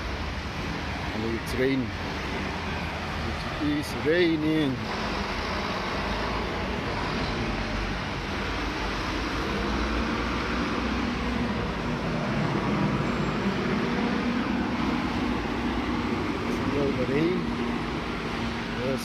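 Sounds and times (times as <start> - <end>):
vehicle engines humming: 0.0 - 19.0.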